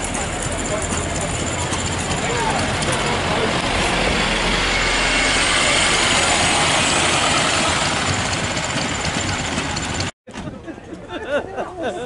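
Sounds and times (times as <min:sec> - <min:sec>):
bus driving past: 0:00.0 - 0:10.1.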